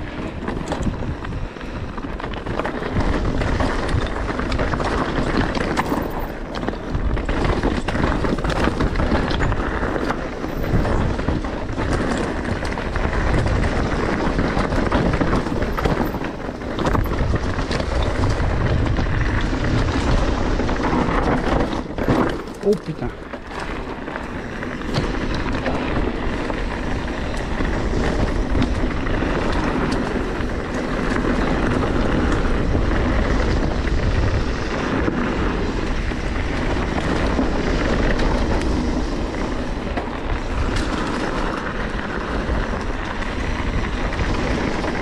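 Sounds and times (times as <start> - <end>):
bike clattering over stones: 0.0 - 45.0
wind buffeting microphone: 0.0 - 45.0.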